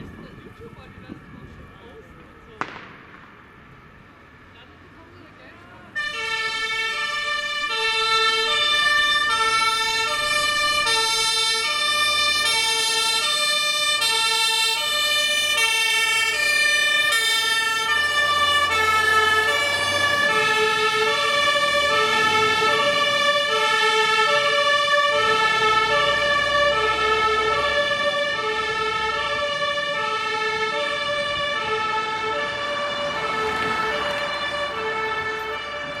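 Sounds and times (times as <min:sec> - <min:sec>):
two-tone fire engine sirens: 0:00.0 - 0:36.0.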